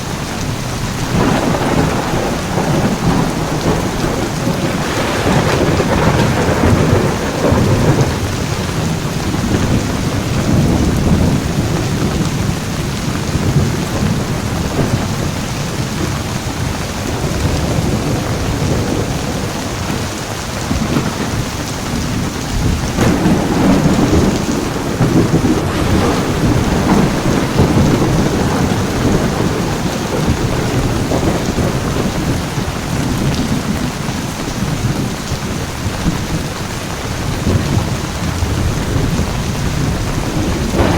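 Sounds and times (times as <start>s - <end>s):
heavy rain pouring: 0.0s - 40.9s
rolling thunder: 0.0s - 40.9s.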